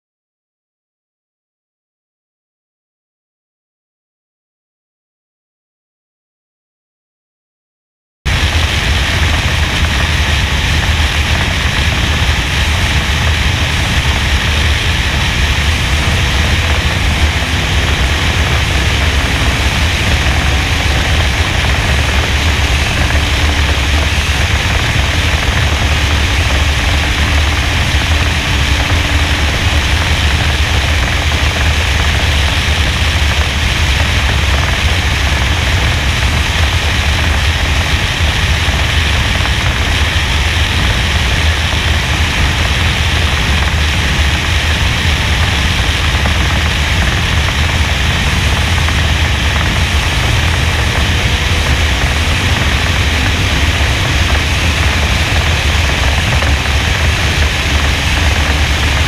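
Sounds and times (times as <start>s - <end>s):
muffled engine drone: 8.3s - 59.0s
wind buffeting camera: 8.3s - 59.0s.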